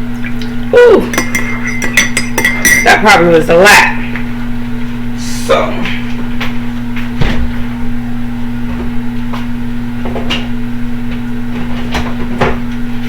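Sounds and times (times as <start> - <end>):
appliance electrical hum: 0.0 - 13.0.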